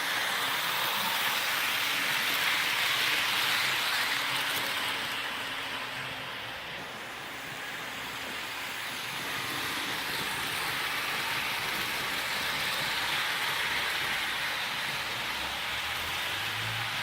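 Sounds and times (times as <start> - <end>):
model train whirring on rails: 0.0 - 17.0.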